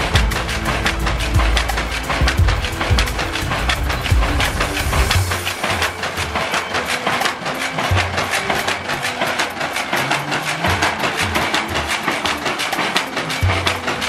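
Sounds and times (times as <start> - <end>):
background music: 0.0 - 14.0
weaving machine clattering: 0.0 - 14.0.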